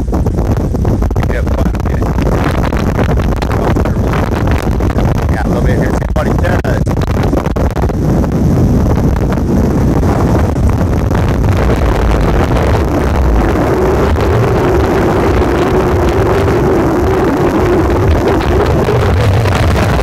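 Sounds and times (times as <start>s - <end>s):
droning hum: 0.0s - 20.0s
storm wind buffeting microphone: 0.0s - 20.0s.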